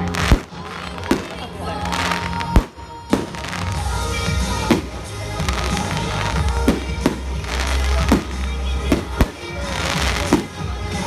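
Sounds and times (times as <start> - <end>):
fireworks bursting with bangs: 0.0 - 11.0
fireworks crackling: 0.0 - 11.0
music playing: 0.0 - 11.0.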